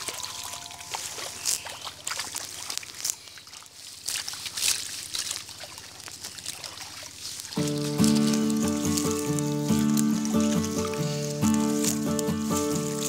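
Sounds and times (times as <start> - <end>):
water dripping: 0.0 - 13.0
water splashing and trickling: 0.0 - 13.0.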